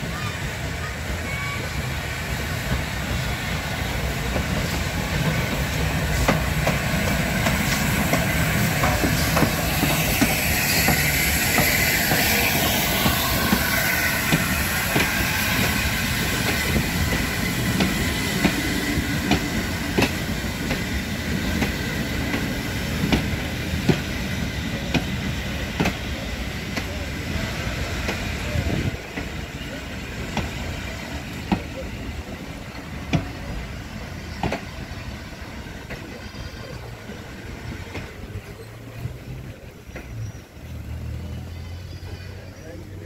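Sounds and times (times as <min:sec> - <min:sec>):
train rumble: 0:00.0 - 0:43.0
steam hissing: 0:01.3 - 0:36.0.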